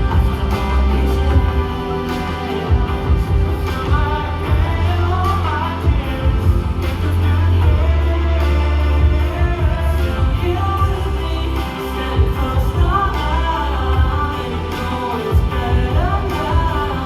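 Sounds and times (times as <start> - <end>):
band playing pop-rock song: 0.0 - 17.0
person singing: 0.0 - 17.0.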